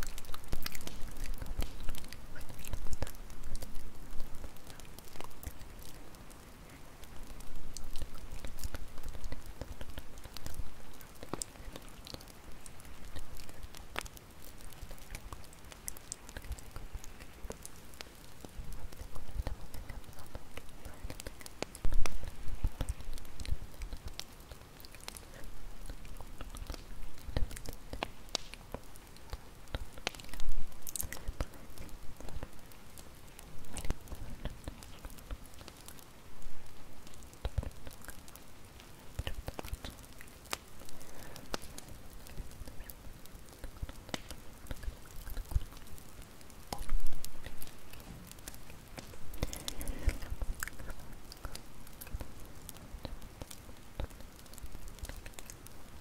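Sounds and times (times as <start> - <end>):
bonfire crackling: 0.0 - 56.0.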